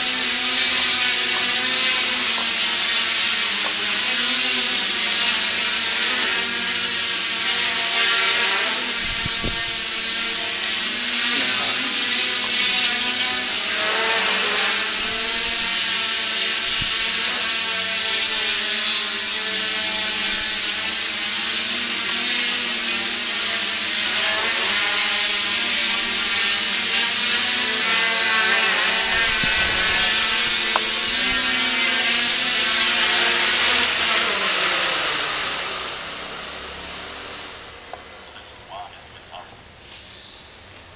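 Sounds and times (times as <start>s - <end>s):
quadcopter propellers whirring: 0.0s - 39.8s
steady high whine: 0.0s - 40.9s.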